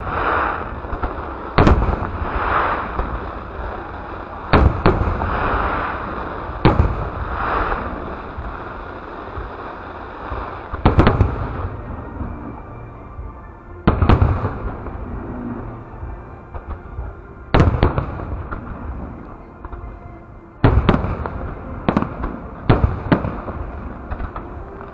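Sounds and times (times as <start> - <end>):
fireworks bursting with sharp bangs: 0.0 - 12.9, 13.8 - 24.9
hissing crackle of fireworks: 0.0 - 24.9.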